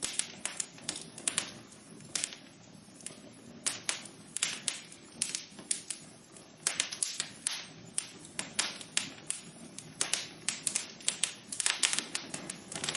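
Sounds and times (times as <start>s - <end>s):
fire crackling and popping: 0.0s - 12.9s
soft hiss of burning: 0.0s - 12.9s.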